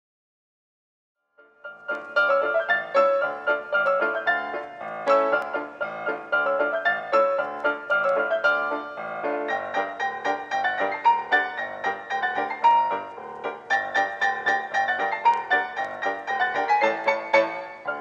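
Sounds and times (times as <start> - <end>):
piano music: 1.4 - 18.0.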